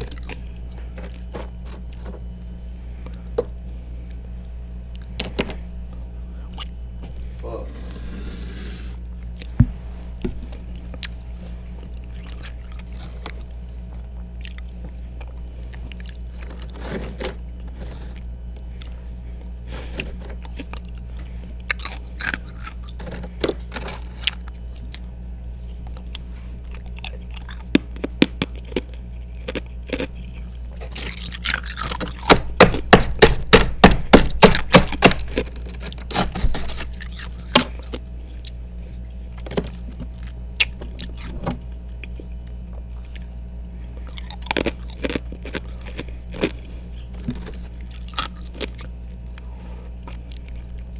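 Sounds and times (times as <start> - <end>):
chewing ice crunches: 0.0 - 2.4, 11.8 - 41.3, 41.9 - 50.9
steady low hum: 0.0 - 50.9.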